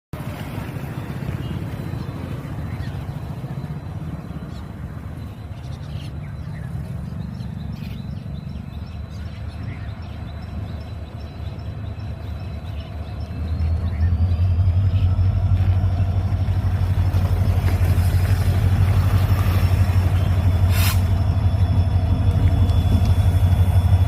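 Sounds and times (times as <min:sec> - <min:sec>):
locomotive diesel engine droning: 0:00.2 - 0:24.0.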